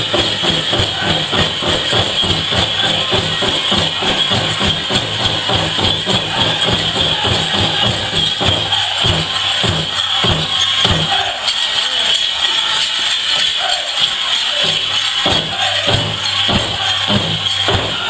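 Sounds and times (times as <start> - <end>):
drum beaten in steady beat: 0.0 - 18.0
leg bells jingling: 0.0 - 18.0.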